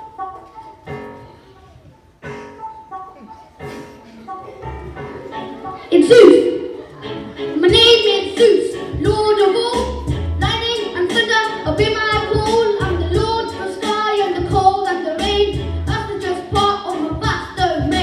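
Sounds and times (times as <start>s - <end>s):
instrumental backing with beat: 0.0s - 18.0s.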